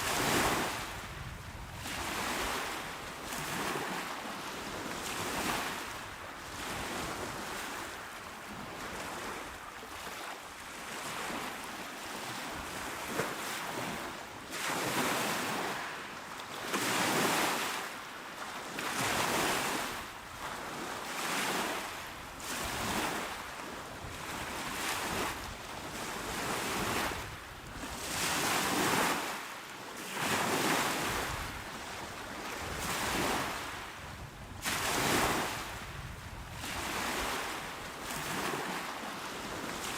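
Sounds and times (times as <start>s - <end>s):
sea waves washing onto shore: 0.0s - 18.0s, 18.7s - 39.9s.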